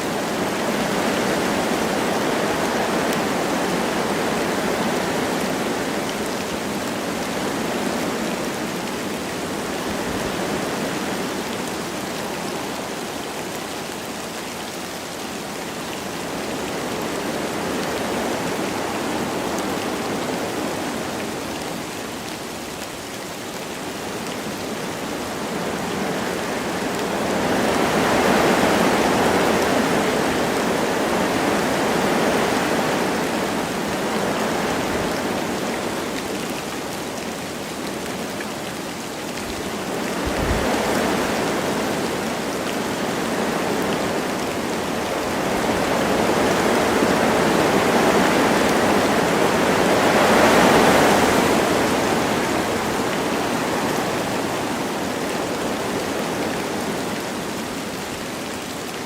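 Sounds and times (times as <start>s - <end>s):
light rain: 0.0s - 59.0s
wind through trees: 0.0s - 59.0s.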